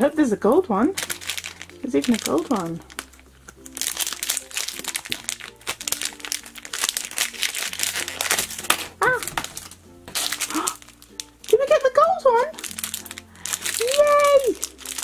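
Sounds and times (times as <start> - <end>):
soft background music: 0.0 - 15.0
foil packet crinkling: 1.0 - 15.0.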